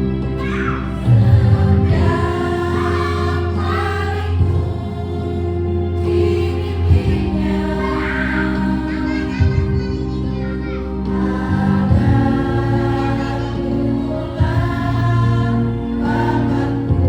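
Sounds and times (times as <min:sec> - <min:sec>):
women's choir singing: 0:00.0 - 0:09.5, 0:11.0 - 0:17.0
instrumental accompaniment: 0:00.0 - 0:17.0.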